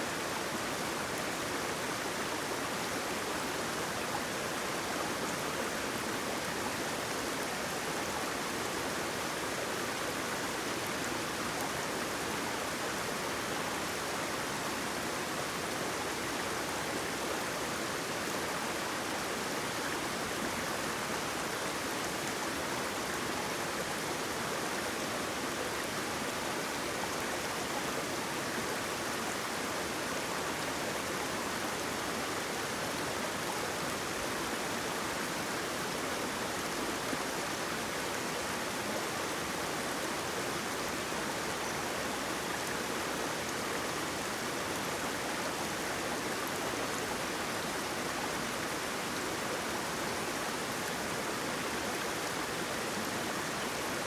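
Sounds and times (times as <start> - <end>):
waterfall and flowing water: 0.0 - 54.0.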